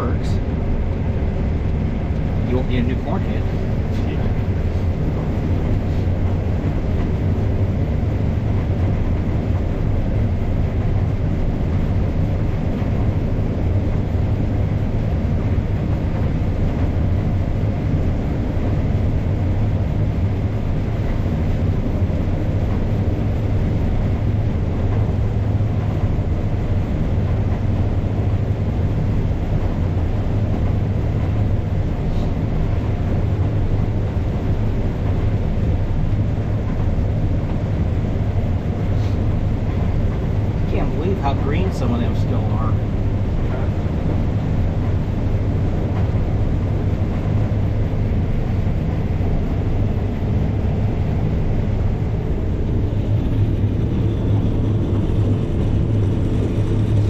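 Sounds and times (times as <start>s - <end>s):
combine harvester drone: 0.0s - 57.0s
faint steady whine: 0.0s - 57.0s.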